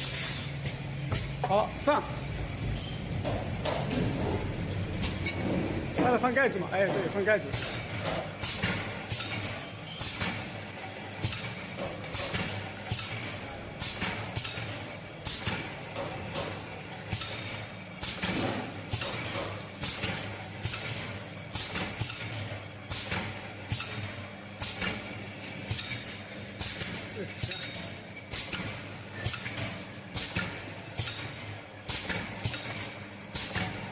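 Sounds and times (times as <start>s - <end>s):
machine clacks and hisses: 0.0s - 1.6s, 2.7s - 33.9s
machine motor hum: 0.0s - 33.9s.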